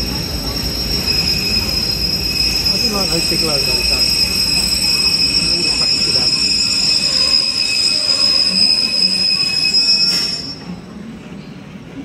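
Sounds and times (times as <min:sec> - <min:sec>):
high-pitched train wheel squeal: 0:00.0 - 0:11.0
train running noise: 0:00.0 - 0:12.0.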